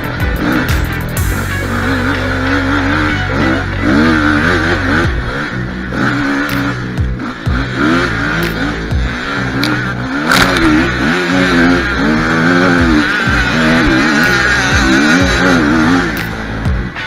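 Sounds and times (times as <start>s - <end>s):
motocross engine revving: 0.0s - 17.0s.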